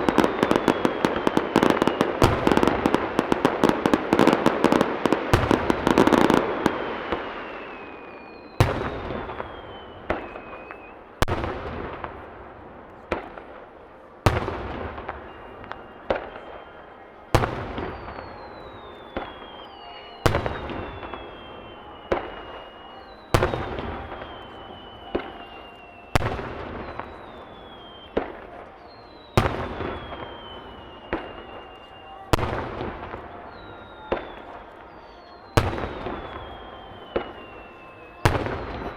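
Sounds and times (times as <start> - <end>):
falling firework whistle: 0.0 - 12.3, 14.3 - 38.9.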